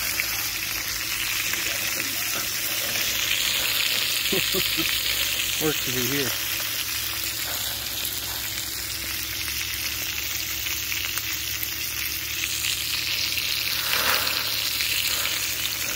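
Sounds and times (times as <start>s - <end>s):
food sizzling on a grill: 0.0s - 15.9s.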